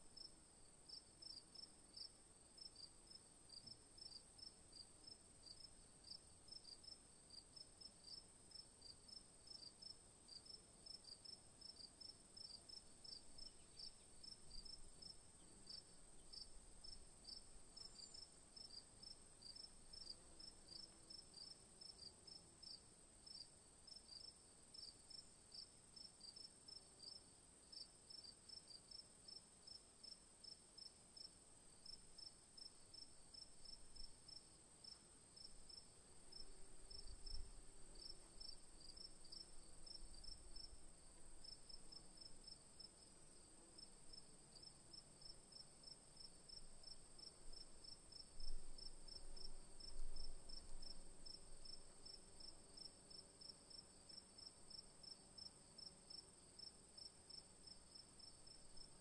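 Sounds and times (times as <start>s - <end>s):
cricket chirping: 0.9s - 59.0s.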